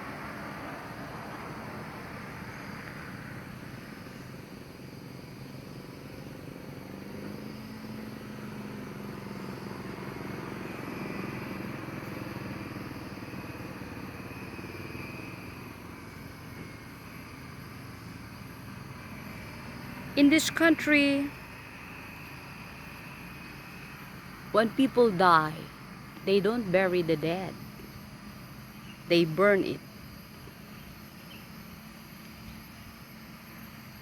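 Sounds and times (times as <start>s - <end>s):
outdoor noise: 0.0s - 34.0s
vehicle engine hum: 0.0s - 34.0s.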